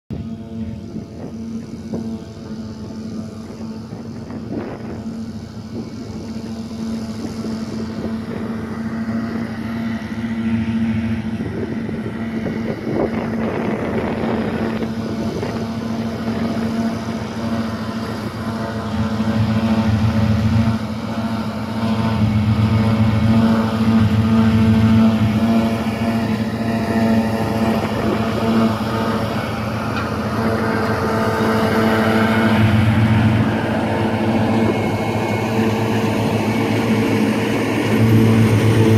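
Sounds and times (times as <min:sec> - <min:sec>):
harvester engine drone: 0:00.1 - 0:38.9.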